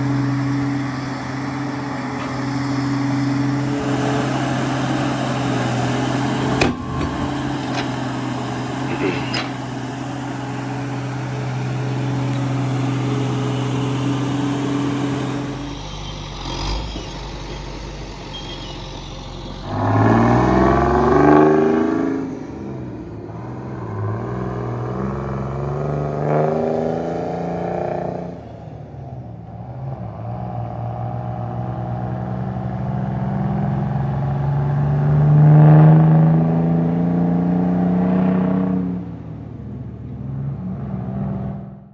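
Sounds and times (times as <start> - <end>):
heavy diesel engine revving: 0.0 - 41.9.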